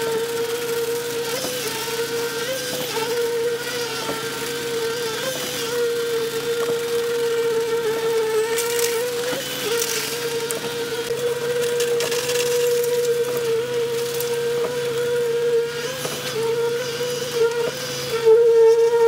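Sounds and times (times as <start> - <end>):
mechanical whine: 0.0 - 19.0.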